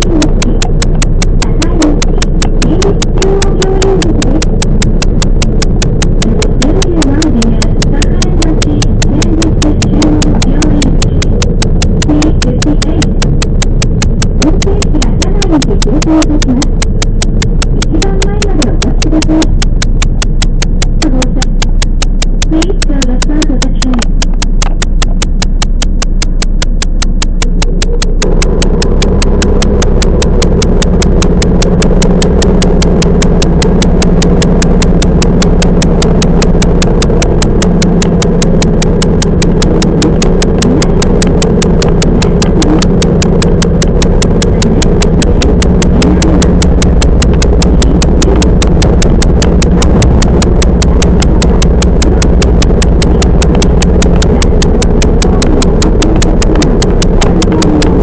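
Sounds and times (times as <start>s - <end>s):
electric train running hum: 0.0s - 58.0s
fast even clicking: 0.0s - 58.0s.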